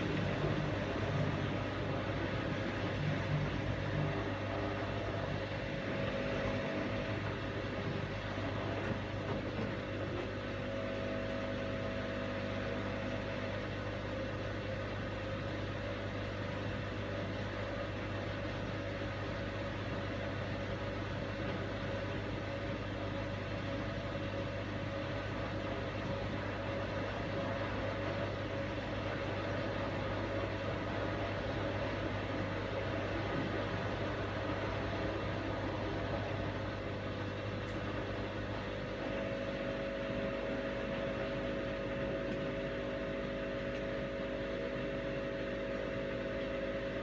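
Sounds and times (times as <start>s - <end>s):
washing machine running: 0.0s - 47.0s.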